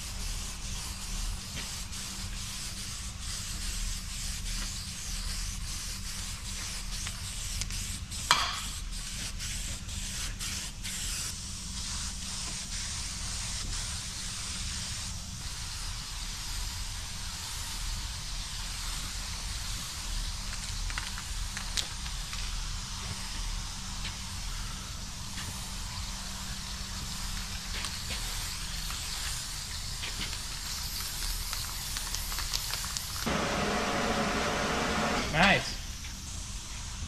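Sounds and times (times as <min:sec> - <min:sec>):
spray paint cans hissing: 0:00.0 - 0:37.0.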